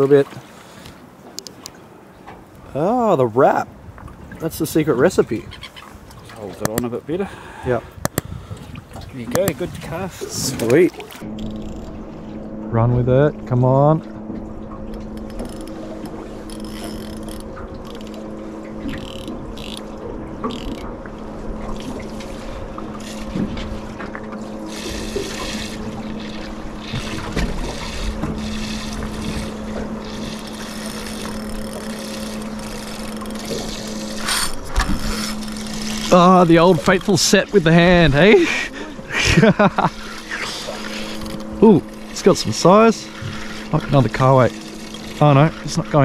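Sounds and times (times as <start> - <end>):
water washing around hull: 0.0 - 46.0
steady low hum: 1.9 - 46.0.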